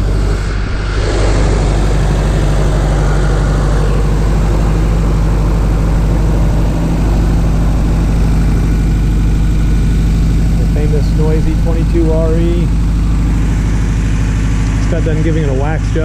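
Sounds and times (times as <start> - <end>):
four-cylinder engine idling: 0.0 - 16.0.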